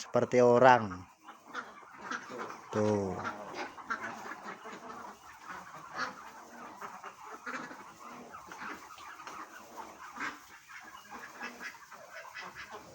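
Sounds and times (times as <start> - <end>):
ducks making soft calls: 0.0 - 12.9.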